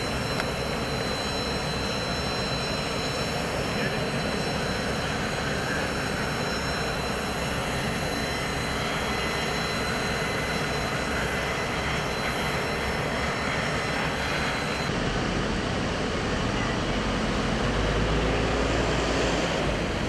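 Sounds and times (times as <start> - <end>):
jet engine high whine: 0.0 - 20.0
jet engine roar: 0.0 - 20.0.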